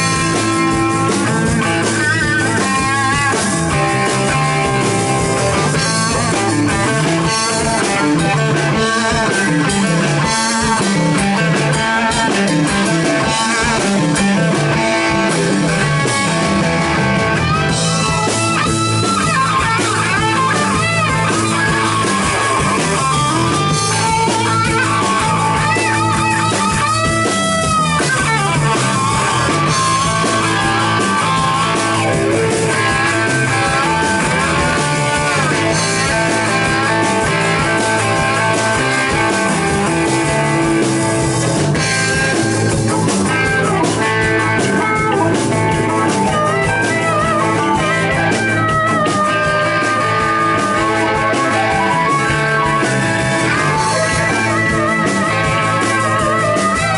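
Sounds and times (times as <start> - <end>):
blues rock band playing live: 0.0 - 56.9
harmonica: 0.0 - 56.9.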